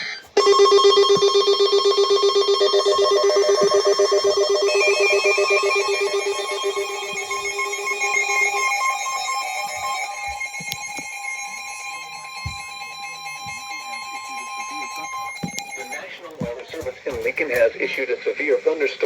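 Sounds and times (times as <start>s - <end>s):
trilling electronic alarm tone: 0.4s - 16.1s.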